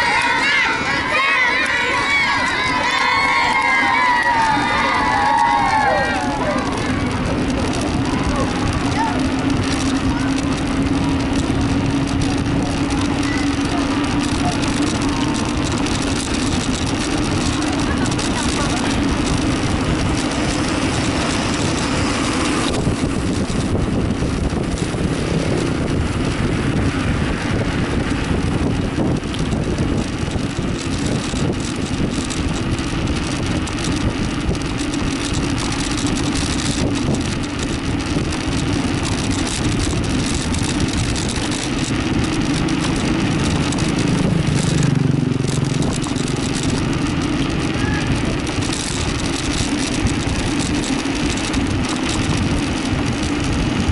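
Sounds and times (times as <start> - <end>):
vehicle engine running: 0.0 - 53.9
wind on microphone: 0.0 - 53.9.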